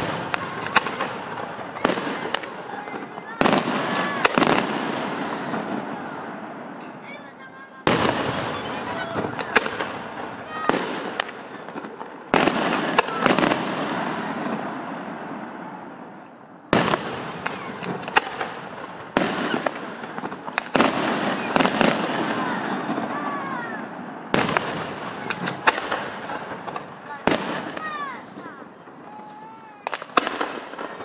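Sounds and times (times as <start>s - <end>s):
fireworks bangs with rolling echo: 0.0s - 31.0s.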